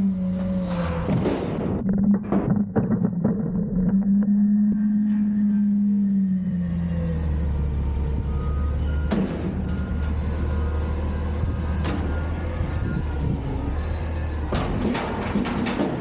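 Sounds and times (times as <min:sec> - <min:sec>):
garbage truck engine rumble: 0:00.0 - 0:16.0.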